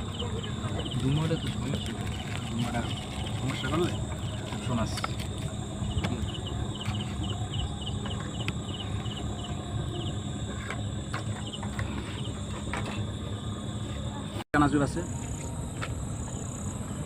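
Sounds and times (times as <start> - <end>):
cricket chirping: 0.0 - 17.0
insects high-pitched drone: 0.0 - 17.0.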